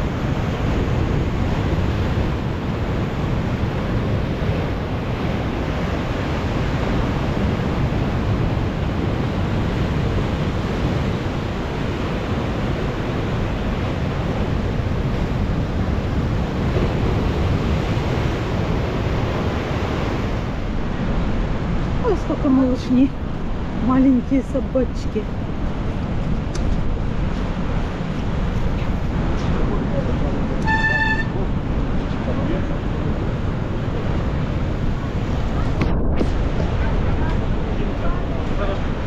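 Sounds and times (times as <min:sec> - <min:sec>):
storm surf breaking on shore: 0:00.0 - 0:39.0
wind buffeting microphone: 0:00.0 - 0:39.0.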